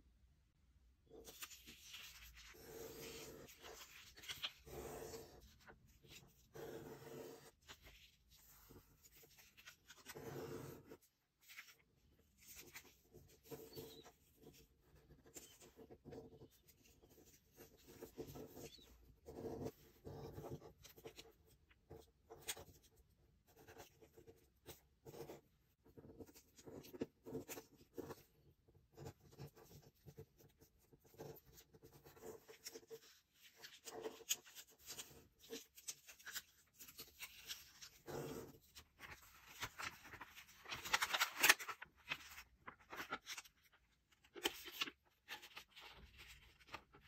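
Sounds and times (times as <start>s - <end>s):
paper rustling being folded: 1.1s - 23.0s, 29.0s - 47.0s.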